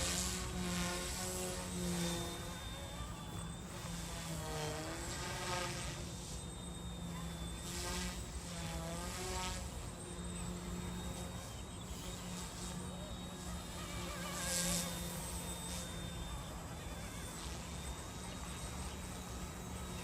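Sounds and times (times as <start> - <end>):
rc helicopter rotor buzzing: 0.0 - 20.0.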